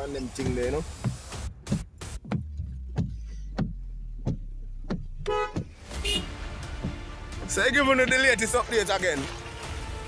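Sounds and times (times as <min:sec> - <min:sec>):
car engine humming: 0:00.0 - 0:08.8
turn signal ticking: 0:00.2 - 0:08.3.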